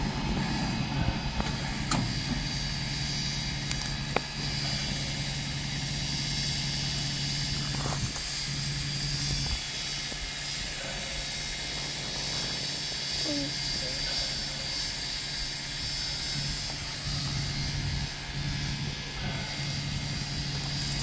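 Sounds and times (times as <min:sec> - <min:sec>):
mechanical drone with hiss: 0:00.0 - 0:21.0.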